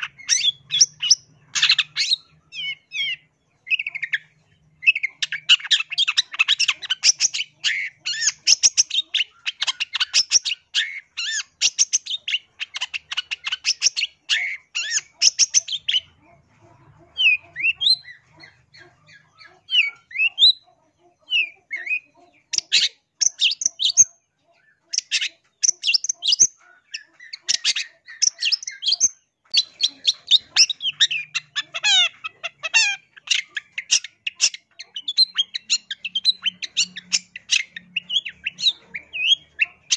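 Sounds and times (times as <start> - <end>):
bird harsh chattering song: 0.0 - 39.9.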